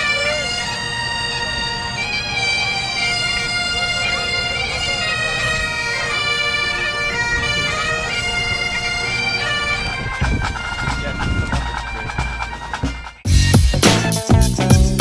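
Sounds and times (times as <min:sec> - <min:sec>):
bagpipes playing: 0:00.0 - 0:15.0.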